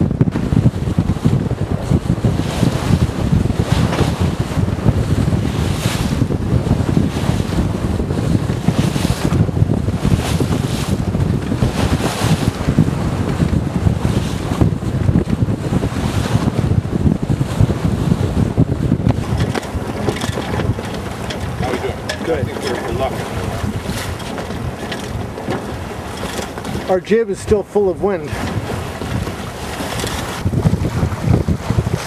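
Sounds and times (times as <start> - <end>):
water rushing past hull: 0.0 - 32.0
wind buffeting microphone: 0.0 - 32.0.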